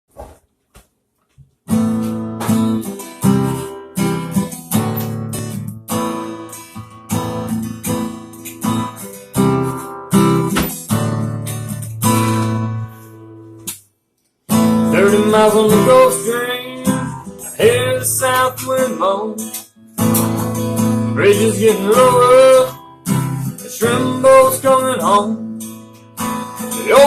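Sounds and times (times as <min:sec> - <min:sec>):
acoustic guitar strumming chords: 0:01.7 - 0:13.9, 0:14.5 - 0:27.0.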